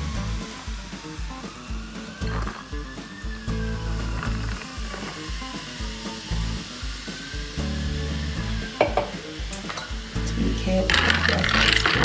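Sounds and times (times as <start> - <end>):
soda fizzing over ice: 0.0 - 12.0
soft background music: 0.0 - 12.0.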